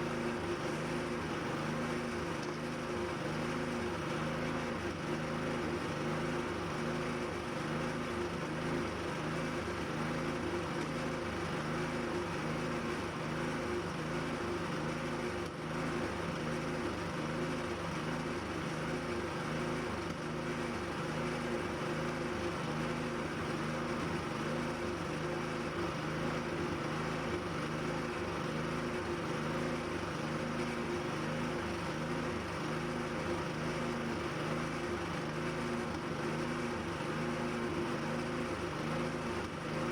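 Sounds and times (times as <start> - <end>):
machine humming steadily: 0.0 - 39.9.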